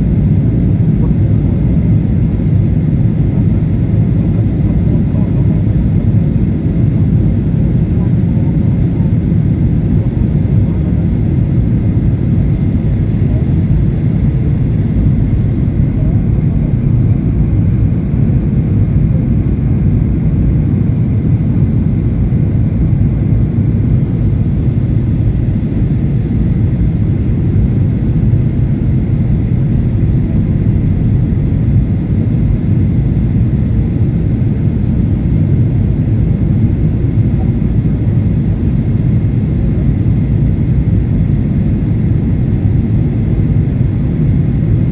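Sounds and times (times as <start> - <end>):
jet engine cabin rumble: 0.0 - 44.9.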